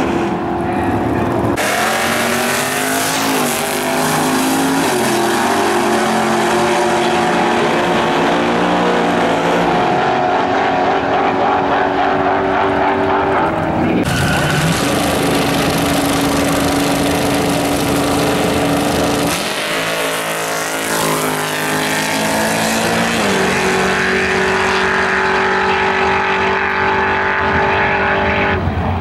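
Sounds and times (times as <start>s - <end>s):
race car engines at full throttle: 0.0s - 29.0s.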